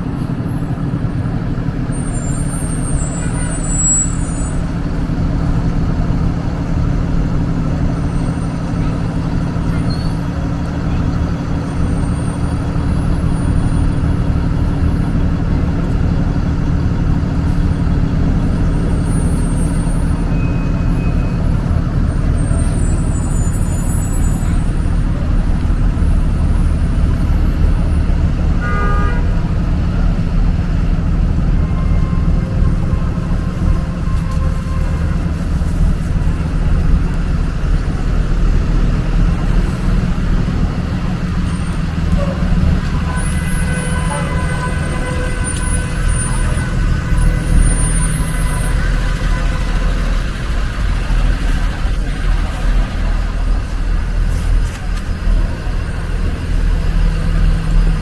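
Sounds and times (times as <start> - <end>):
diesel engine rumble: 0.0 - 58.0
street traffic: 0.0 - 58.0.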